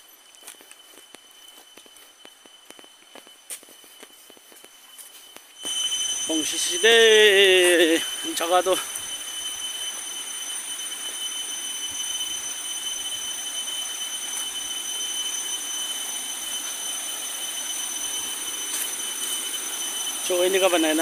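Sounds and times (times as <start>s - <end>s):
high-pitched tones: 0.0s - 21.0s.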